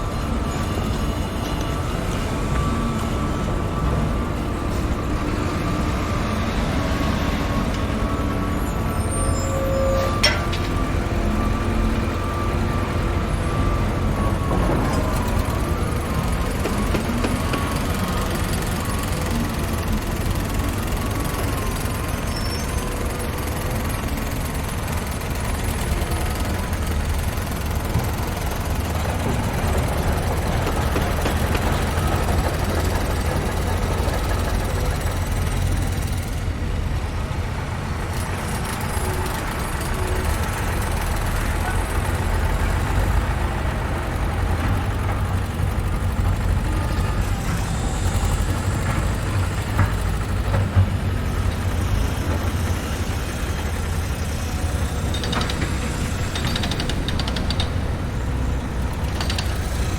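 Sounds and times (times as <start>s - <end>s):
heavy engines rumbling: 0.0s - 59.9s.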